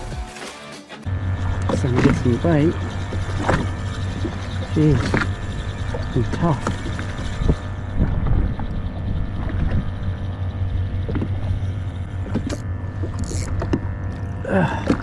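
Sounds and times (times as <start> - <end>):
jet ski engine idling: 1.1 - 15.0
low hum: 1.1 - 15.0.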